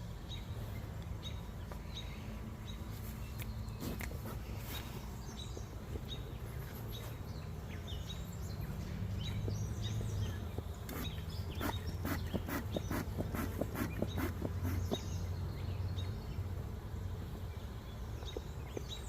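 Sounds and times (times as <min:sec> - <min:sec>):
honeybees humming: 0:00.0 - 0:19.0
small birds chirping: 0:00.0 - 0:19.0.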